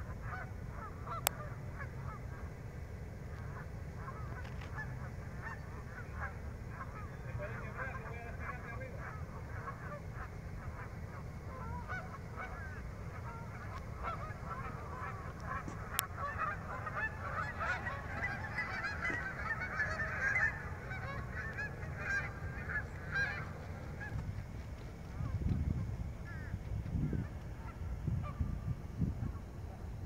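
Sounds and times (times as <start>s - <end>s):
flock of geese honking: 0.0s - 30.0s.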